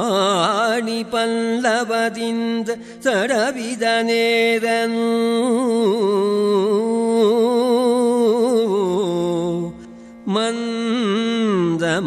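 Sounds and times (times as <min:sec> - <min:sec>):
man singing ornamented verse: 0:00.0 - 0:12.0.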